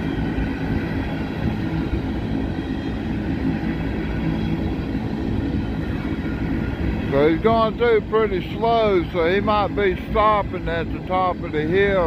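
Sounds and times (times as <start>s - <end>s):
steel train wheels rumbling on rails: 0.0s - 12.0s.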